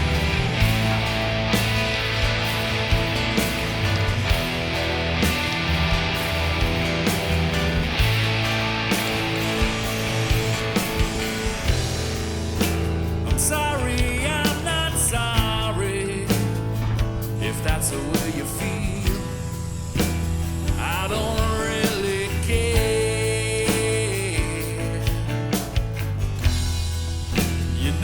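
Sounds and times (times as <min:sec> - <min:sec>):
rock music with drums and bass: 0:00.0 - 0:28.0.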